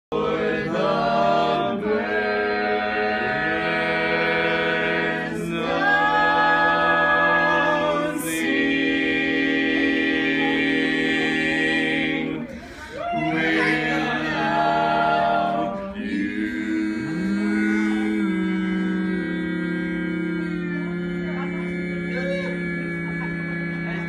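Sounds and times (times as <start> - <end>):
group singing in close harmony: 0.0 - 24.0.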